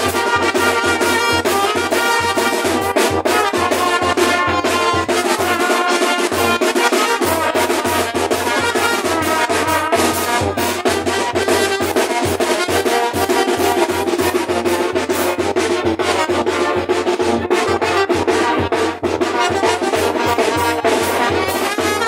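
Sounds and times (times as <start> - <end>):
brass band with drums: 0.0 - 22.0.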